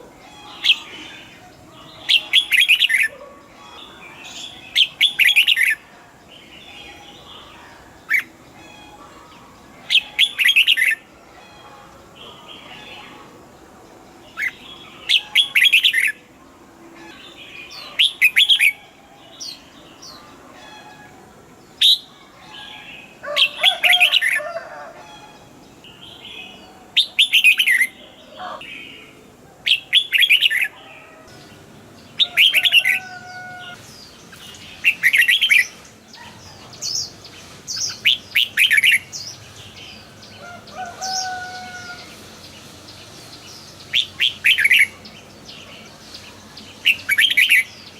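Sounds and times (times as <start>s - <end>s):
bird singing warbling phrases: 0.0s - 47.9s.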